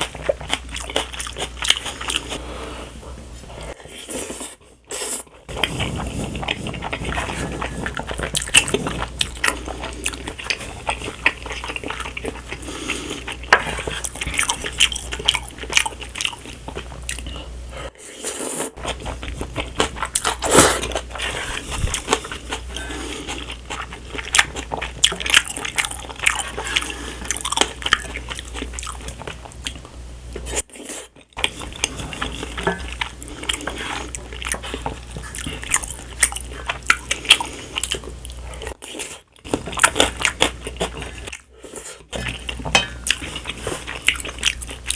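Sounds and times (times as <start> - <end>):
person chewing noodles: 0.0 - 2.9, 3.5 - 44.9.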